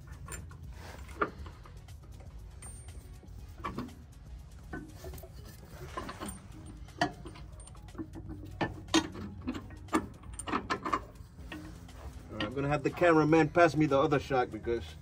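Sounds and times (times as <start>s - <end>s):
metallic clicks and knocks of tools: 0.0s - 13.0s.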